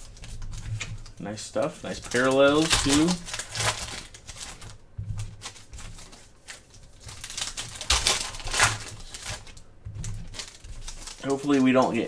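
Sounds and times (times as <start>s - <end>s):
cards being handled: 0.0s - 12.0s
foil wrappers crinkling: 0.0s - 12.0s
loud rustles: 1.9s - 12.0s.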